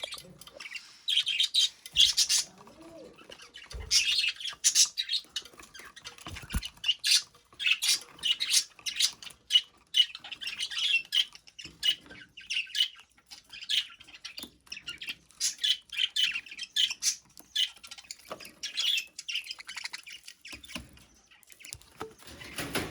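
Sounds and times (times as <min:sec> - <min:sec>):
budgerigar chirping and squawking: 0:00.0 - 0:21.8.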